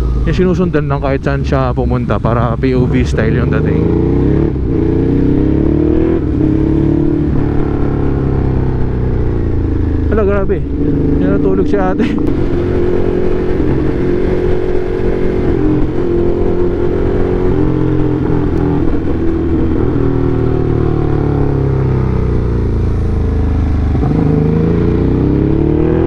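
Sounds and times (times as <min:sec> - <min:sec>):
motorcycle engine running: 0:00.0 - 0:26.0
wind noise rumble: 0:00.0 - 0:26.0.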